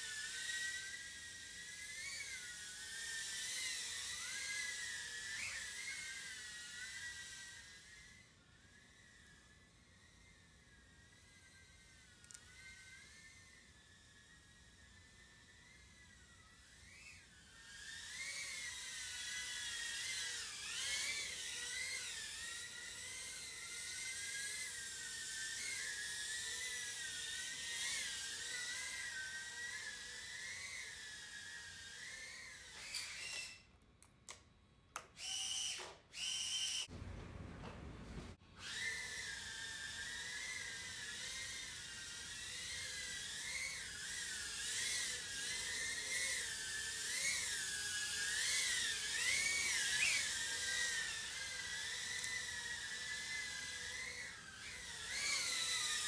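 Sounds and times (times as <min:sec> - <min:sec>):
small drone motors whining: 0:00.0 - 0:36.9, 0:38.3 - 0:56.0.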